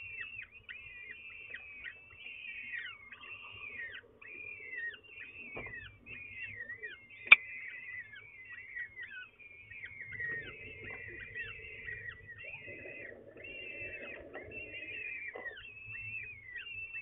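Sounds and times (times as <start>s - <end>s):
falcon chicks cheeping: 0.0s - 17.0s.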